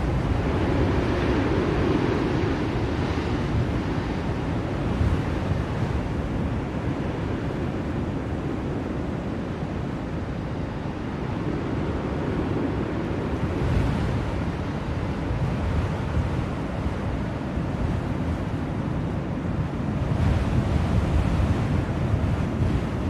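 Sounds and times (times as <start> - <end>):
blizzard wind rushing: 0.0 - 23.0.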